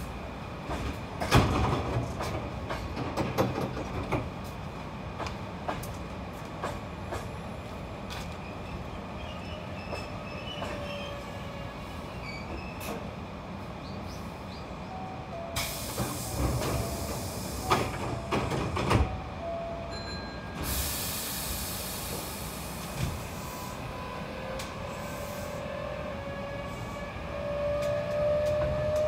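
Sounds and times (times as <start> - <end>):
electric train rumbling on track: 0.0 - 29.0
train clatter and knocks: 0.0 - 29.0.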